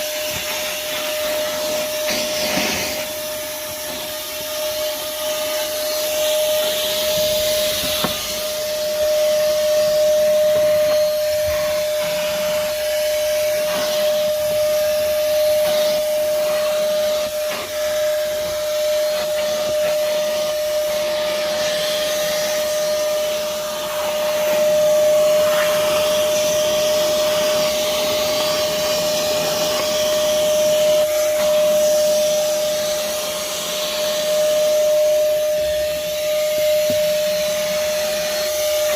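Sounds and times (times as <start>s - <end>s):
shop vacuum running: 0.0s - 38.9s.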